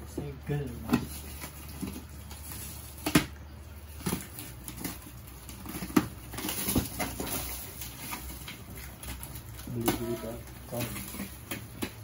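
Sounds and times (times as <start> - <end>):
plastic wrapping crinkling: 0.5 - 12.0.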